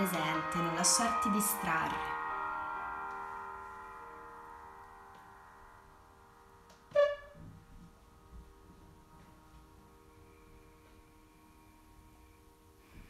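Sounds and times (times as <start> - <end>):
metal meditation chime ringing: 0.0 - 12.9.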